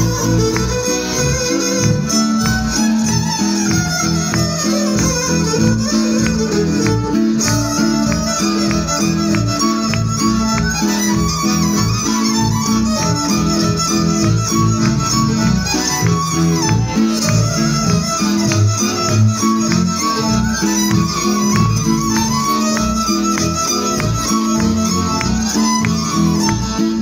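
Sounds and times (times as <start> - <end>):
double bass bowed and plucked: 0.0 - 27.0
fiddles playing: 0.0 - 27.0.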